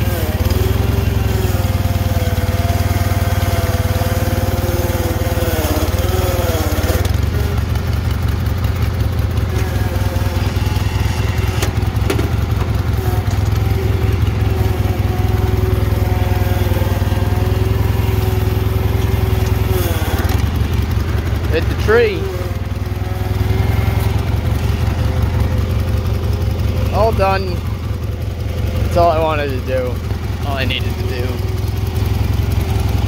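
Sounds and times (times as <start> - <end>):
garden tractor engine running: 0.0 - 33.0.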